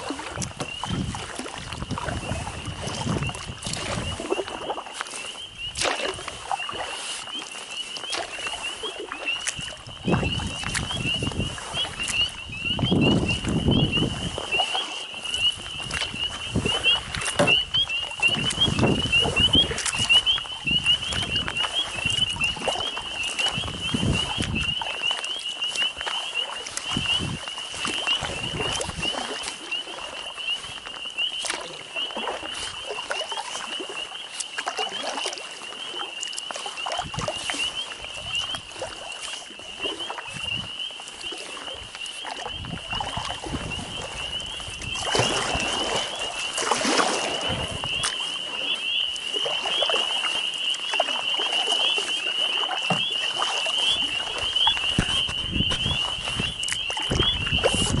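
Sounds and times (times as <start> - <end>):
canoe paddle knocks and water: 0.0 - 58.0
frogs peeping chorus: 0.0 - 58.0.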